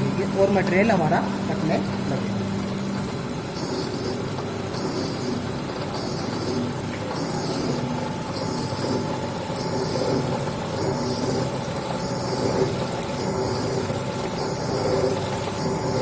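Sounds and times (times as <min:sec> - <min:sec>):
lathe machine hum: 0:00.0 - 0:16.0.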